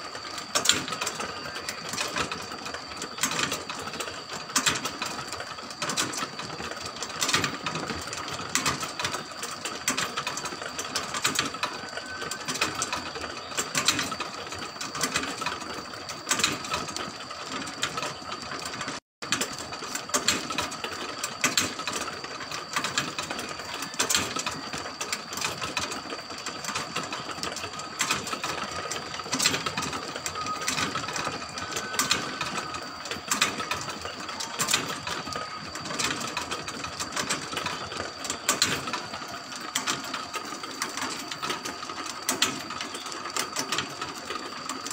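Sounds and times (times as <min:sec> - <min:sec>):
gears clicking and rattling: 0:00.0 - 0:44.9
rotisserie motor whine: 0:00.0 - 0:44.9.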